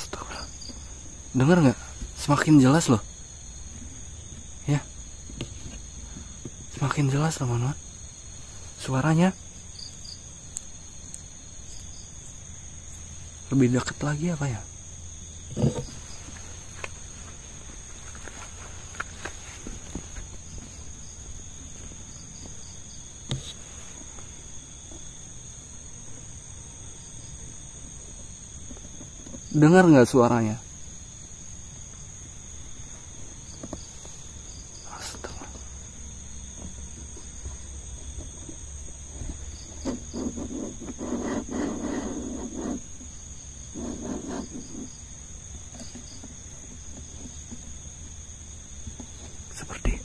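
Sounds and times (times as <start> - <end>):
crickets chirring: 0.0 - 50.0
night insects trilling: 0.0 - 50.0.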